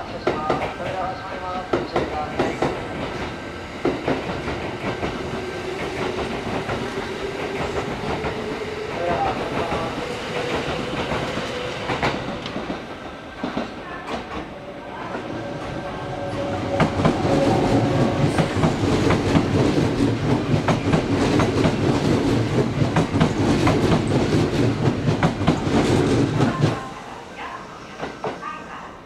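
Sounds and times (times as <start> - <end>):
train wheels rolling: 0.2 - 27.0.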